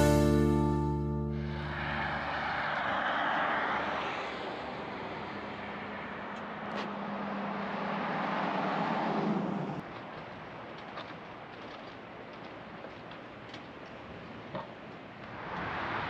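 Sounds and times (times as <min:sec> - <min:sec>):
wind and road rush: 0:01.3 - 0:16.0.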